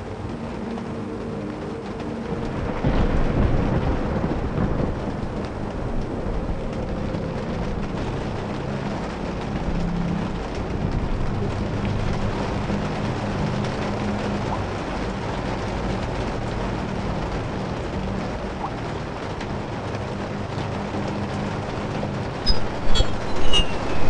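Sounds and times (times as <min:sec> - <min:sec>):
low hum: 0:00.0 - 0:24.0
steady rushing noise: 0:00.0 - 0:24.0.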